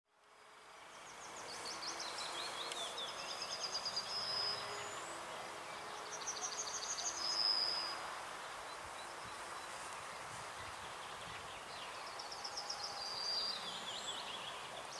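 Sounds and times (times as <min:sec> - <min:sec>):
outdoor background hiss: 0:00.1 - 0:14.9.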